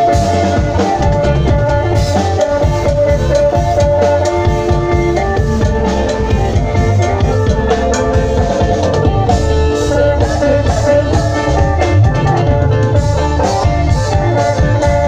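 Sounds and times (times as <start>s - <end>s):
drum kit beat: 0.0s - 15.0s
festive band over loudspeakers: 0.0s - 15.0s.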